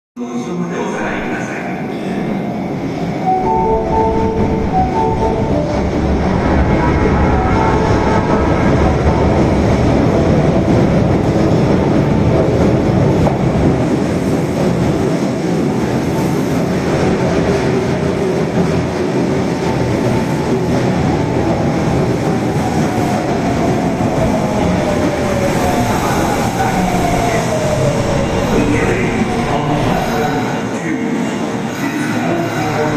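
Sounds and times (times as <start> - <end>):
subway train rumbling: 0.2 - 32.9.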